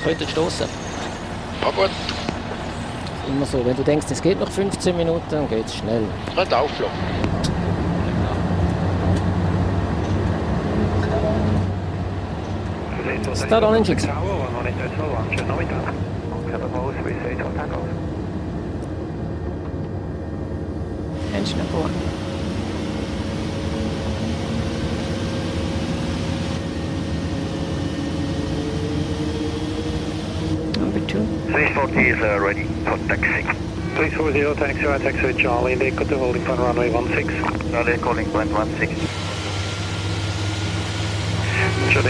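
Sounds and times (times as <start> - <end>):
cockpit low hum: 0.0 - 42.0.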